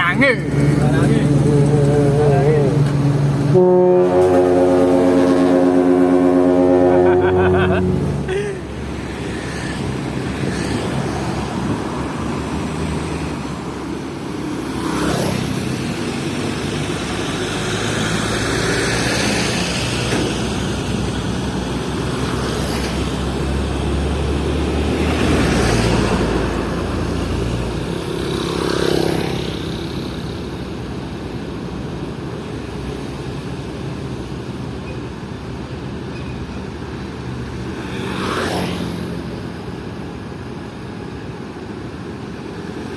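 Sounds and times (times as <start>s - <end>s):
vehicles whooshing past: 0.0s - 42.9s.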